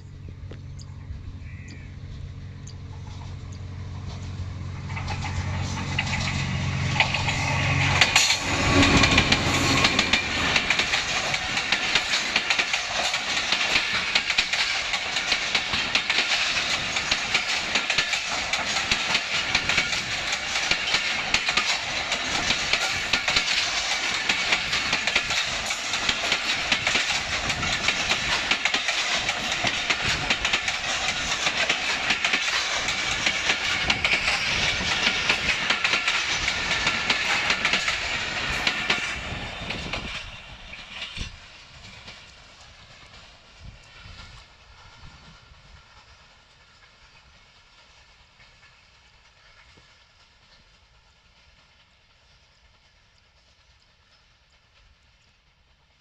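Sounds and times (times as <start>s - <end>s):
train wheels clattering over rail joints: 2.7s - 55.0s.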